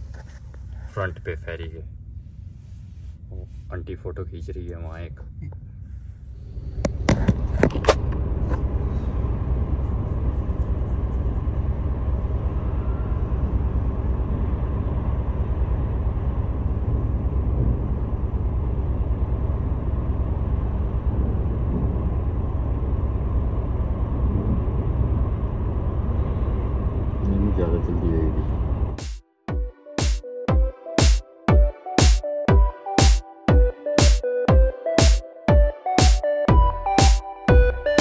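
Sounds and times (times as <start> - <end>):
deep rumble of engines: 0.0 - 29.0, 36.5 - 38.0.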